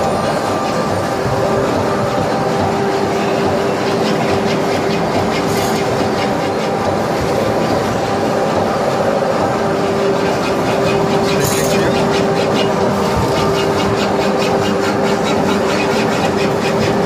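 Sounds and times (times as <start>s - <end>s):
machine hum: 0.0s - 17.0s
packing machine clattering: 0.0s - 17.0s.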